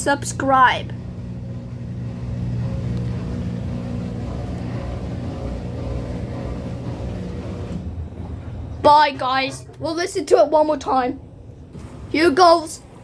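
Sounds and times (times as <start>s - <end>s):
washer drain pump humming: 0.0s - 13.0s.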